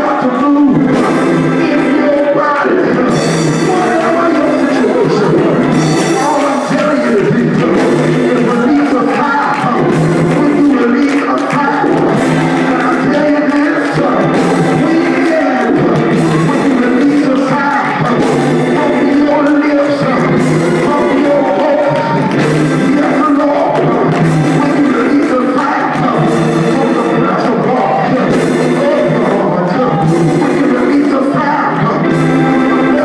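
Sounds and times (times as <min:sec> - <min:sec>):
people singing: 0:00.0 - 0:33.0
sustained instrumental chords: 0:00.0 - 0:33.0.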